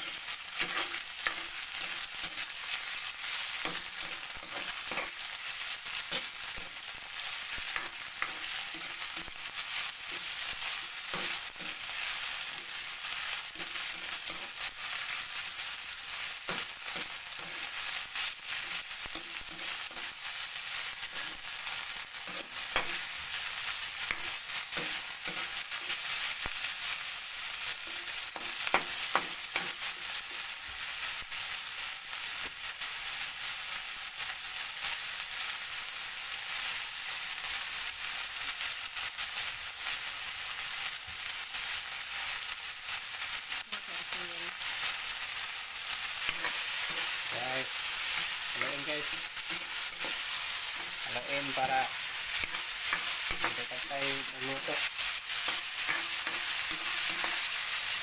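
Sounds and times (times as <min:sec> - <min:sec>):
meat sizzling in hot oil: 0:00.0 - 0:58.0.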